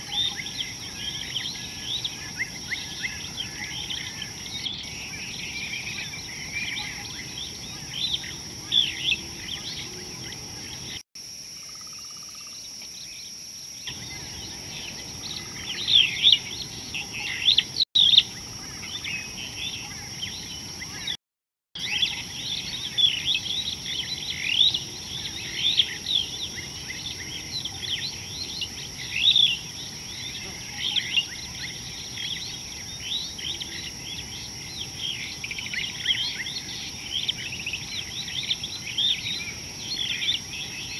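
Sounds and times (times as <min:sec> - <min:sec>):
small birds chirping: 0:00.0 - 0:21.2, 0:21.8 - 0:40.9.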